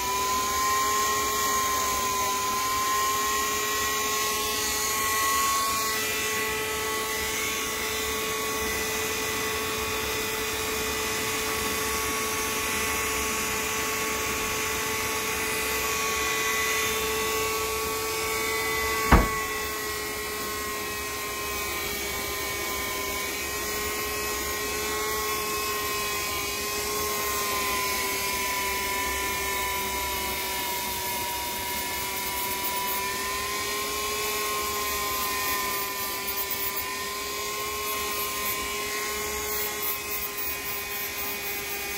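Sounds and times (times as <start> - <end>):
power tool motor whining: 0.0 - 41.9.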